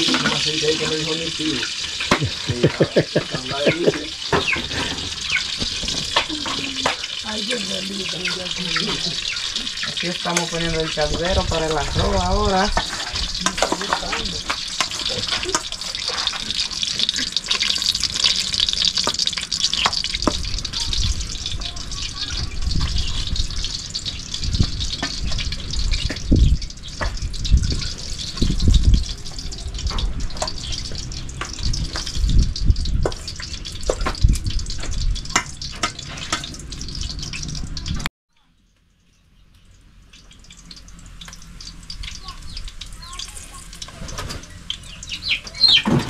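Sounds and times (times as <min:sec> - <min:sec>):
fire crackling: 0:00.0 - 0:38.1, 0:38.8 - 0:46.0
hot oil sizzling: 0:00.0 - 0:46.0.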